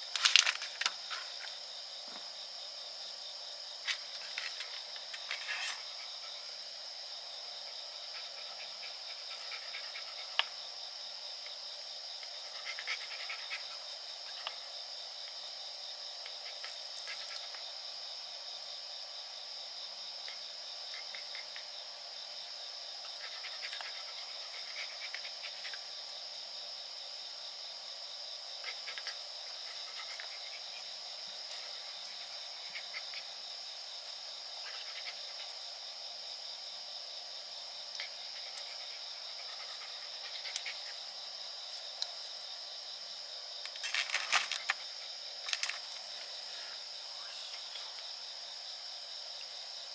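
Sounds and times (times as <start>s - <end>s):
crickets trilling: 0.0s - 49.9s.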